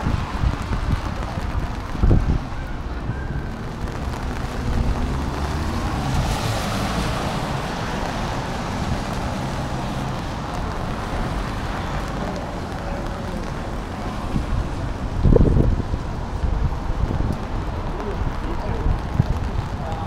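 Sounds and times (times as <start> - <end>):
tyres hissing on wet pavement: 0.0 - 20.0
vehicle engines running: 0.0 - 20.0
wind on microphone: 0.0 - 20.0.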